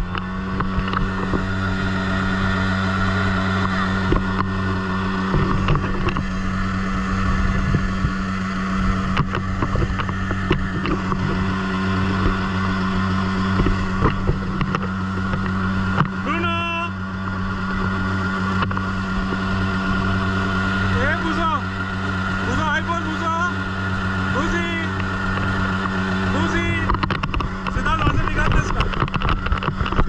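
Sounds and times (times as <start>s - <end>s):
motorboat engine droning: 0.0s - 30.0s
water and wind rushing past hull: 0.0s - 30.0s.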